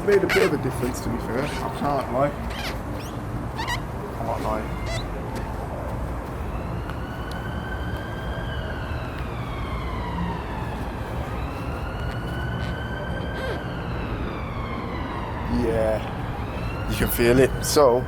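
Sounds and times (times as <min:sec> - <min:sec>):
distant siren wailing: 0:00.0 - 0:18.0.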